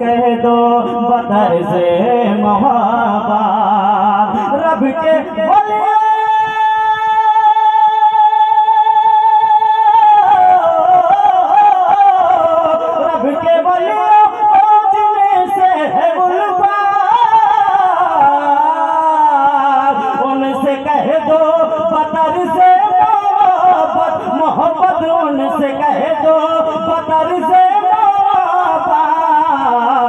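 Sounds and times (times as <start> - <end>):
man singing over loudspeaker: 0.0 - 30.0.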